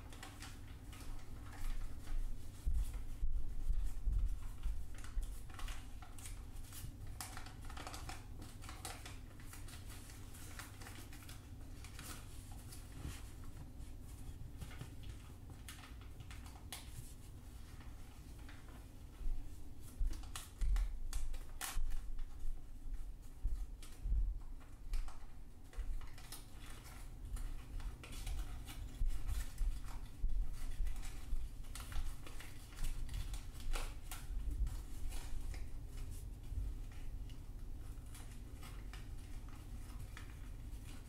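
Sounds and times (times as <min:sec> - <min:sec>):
paper crinkling while folded: 0:00.0 - 0:41.0.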